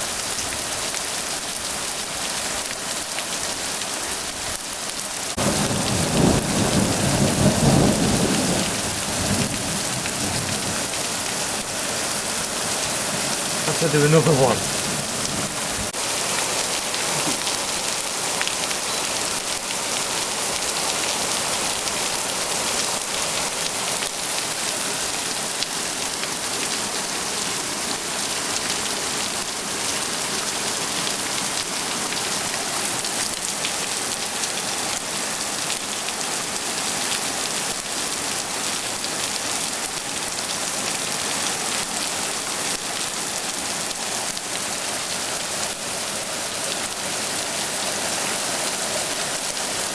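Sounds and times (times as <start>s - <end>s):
heavy rain splashing: 0.0s - 49.9s.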